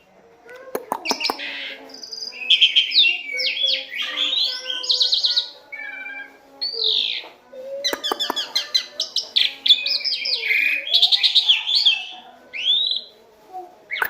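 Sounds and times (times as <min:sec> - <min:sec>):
starling singing: 0:00.0 - 0:14.0.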